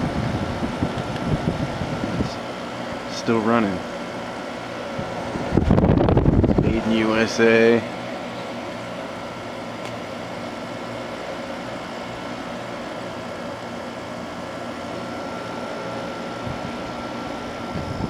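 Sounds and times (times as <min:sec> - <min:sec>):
air conditioner fan humming: 0:00.0 - 0:18.0.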